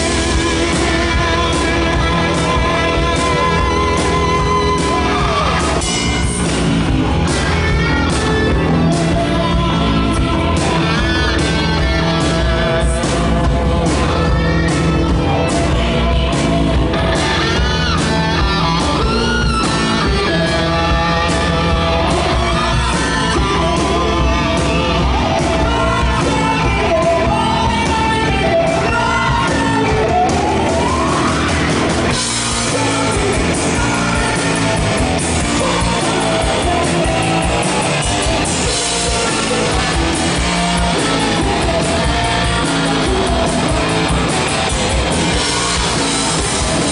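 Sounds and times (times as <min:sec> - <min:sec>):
bass guitar: 0:00.0 - 0:46.9
drums: 0:00.0 - 0:46.9
electric guitars: 0:00.0 - 0:46.9
person singing: 0:00.0 - 0:46.9
rising guitar slide: 0:00.0 - 0:46.9.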